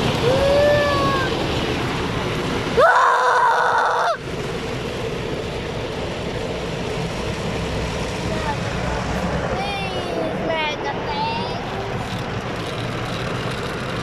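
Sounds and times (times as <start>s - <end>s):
car wash rumble and spray: 0.0s - 14.0s.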